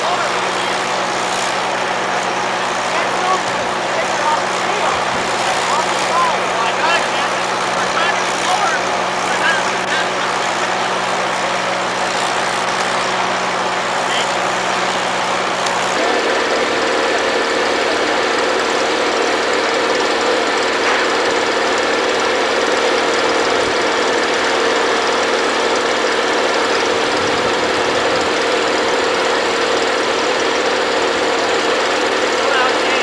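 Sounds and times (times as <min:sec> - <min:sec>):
machine engine running: 0:00.0 - 0:33.0.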